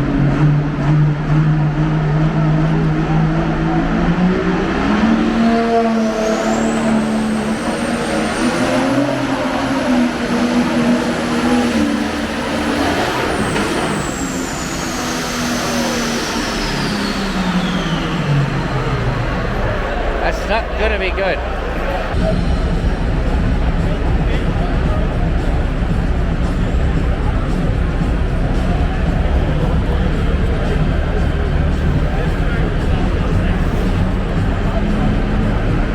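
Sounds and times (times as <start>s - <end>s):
high whine: 0.0s - 35.9s.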